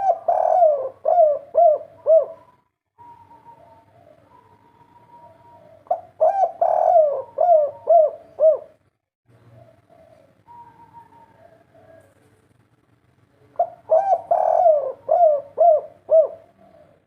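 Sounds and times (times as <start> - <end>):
dove cooing: 0.0 - 8.8, 9.4 - 12.4, 13.4 - 17.0.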